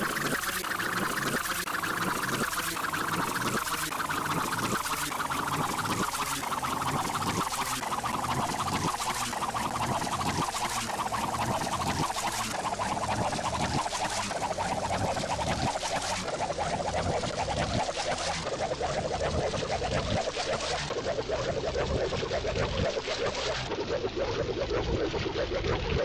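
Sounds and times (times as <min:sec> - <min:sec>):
fluttering cartoon whirr: 0:00.0 - 0:26.0.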